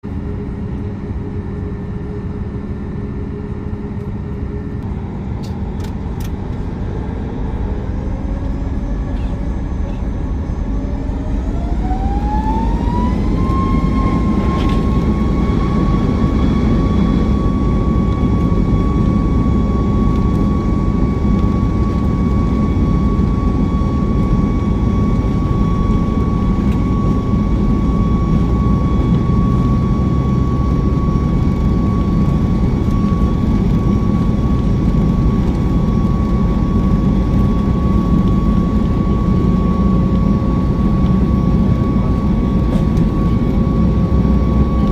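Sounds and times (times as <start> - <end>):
heavy low rumble: 0.0 - 44.9
jet engines whining: 0.1 - 44.9.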